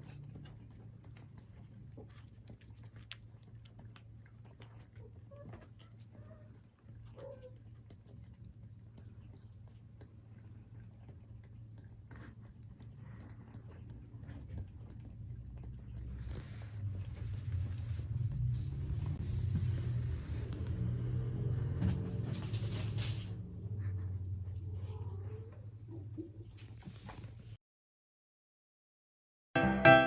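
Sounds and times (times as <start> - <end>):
cat lapping water: 0.0 - 26.1.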